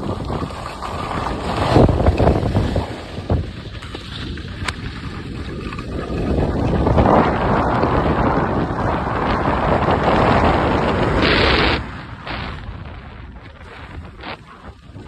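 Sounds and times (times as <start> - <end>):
skis sliding over snow: 0.0 - 15.0
wind buffeting microphone: 0.0 - 15.0.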